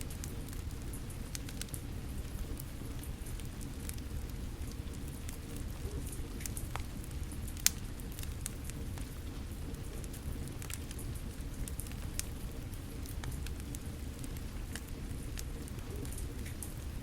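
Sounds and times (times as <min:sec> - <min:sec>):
falling rain: 0:00.0 - 0:17.0
wood fire crackling: 0:00.0 - 0:17.0.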